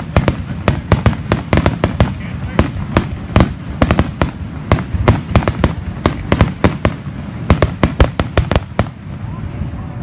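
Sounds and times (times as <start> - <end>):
fireworks banging: 0.0 - 9.9.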